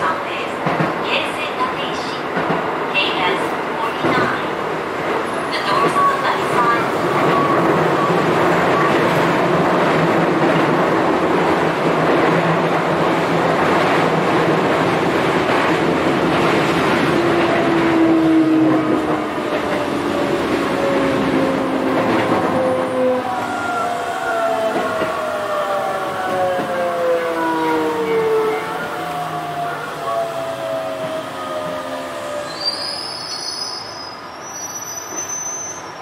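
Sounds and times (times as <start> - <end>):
train wheels on rail: 0.0 - 36.0.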